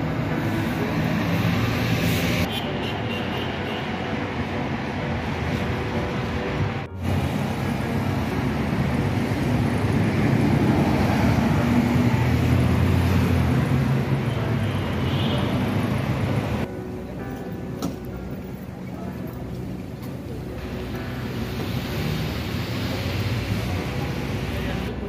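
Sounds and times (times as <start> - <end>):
car and bus engines passing: 0.0 - 16.7, 17.8 - 25.0.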